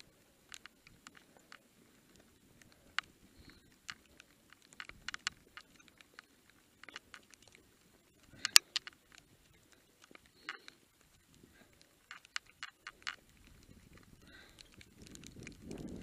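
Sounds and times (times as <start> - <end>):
bike rolling on gravel: 0.0 - 16.0.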